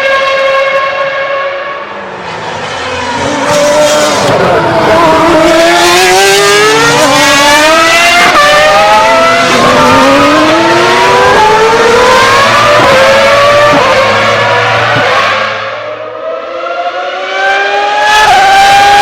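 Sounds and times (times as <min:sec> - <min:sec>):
racing car engine at full throttle: 0:00.0 - 0:19.0.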